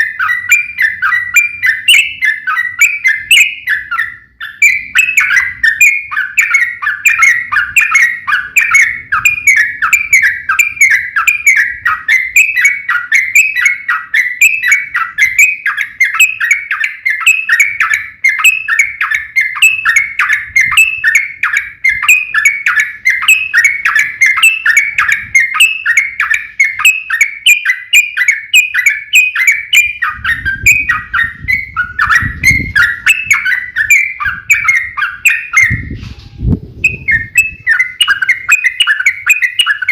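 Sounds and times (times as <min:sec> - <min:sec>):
bird singing chattering notes: 0:00.0 - 0:36.0, 0:36.7 - 0:39.9.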